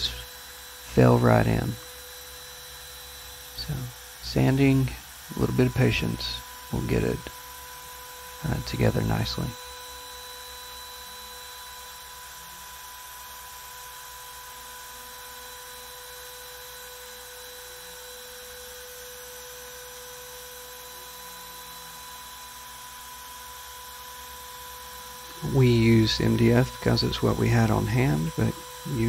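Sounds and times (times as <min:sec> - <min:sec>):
router motor whining: 0:00.0 - 0:29.0.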